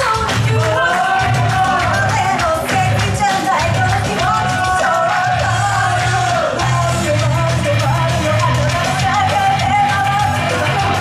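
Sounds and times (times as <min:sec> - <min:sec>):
pop song with vocals: 0:00.0 - 0:11.0.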